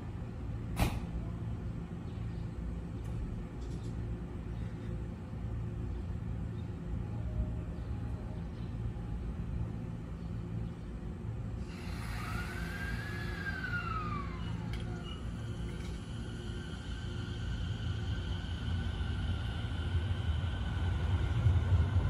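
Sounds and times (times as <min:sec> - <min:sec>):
electric train idling hum: 0:00.0 - 0:22.0.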